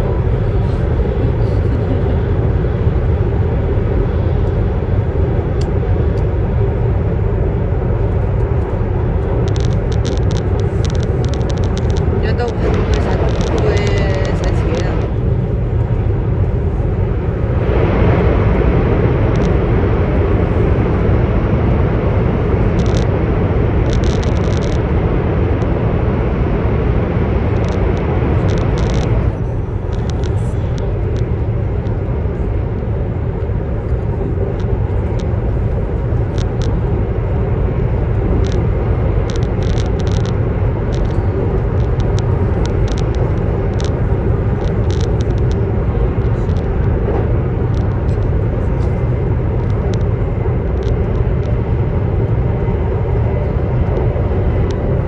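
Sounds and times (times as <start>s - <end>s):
train cabin rumble: 0.0s - 55.0s.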